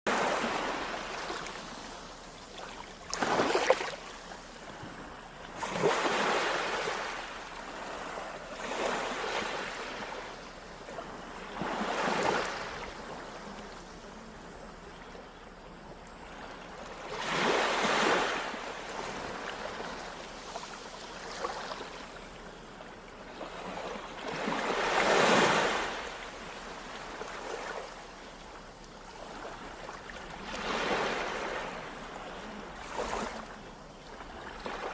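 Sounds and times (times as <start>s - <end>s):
small waves washing onto beach: 0.1s - 34.9s.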